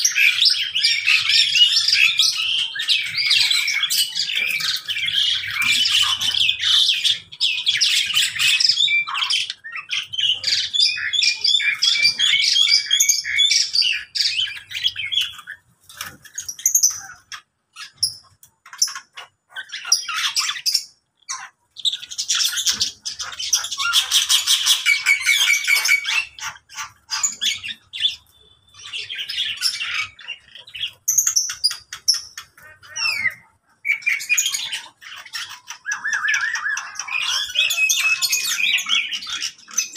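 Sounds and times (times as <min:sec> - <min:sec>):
cage birds chattering and squawking: 0:00.0 - 0:39.9.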